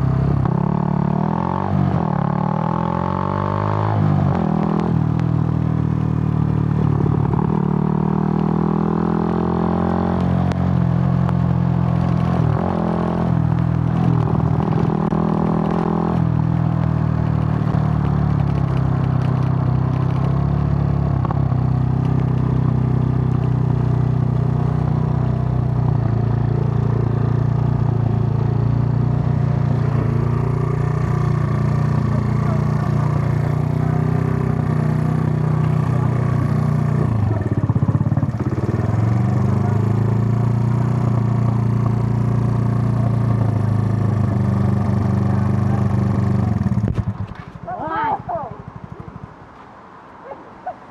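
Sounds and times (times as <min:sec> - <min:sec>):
motorcycle engine running: 0:00.0 - 0:49.3.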